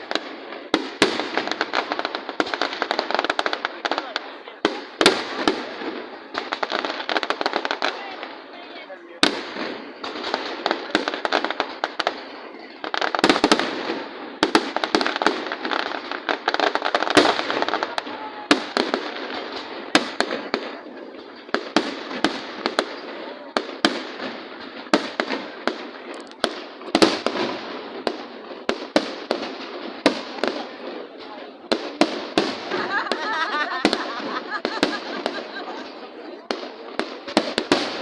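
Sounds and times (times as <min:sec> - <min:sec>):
fireworks bangs: 0:00.0 - 0:38.0
fireworks crackle: 0:00.0 - 0:38.0.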